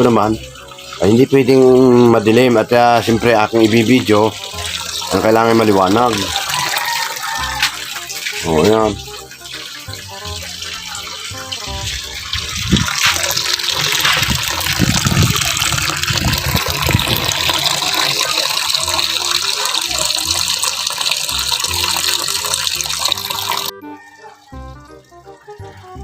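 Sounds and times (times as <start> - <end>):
water pouring into washing machine: 0.0 - 23.7.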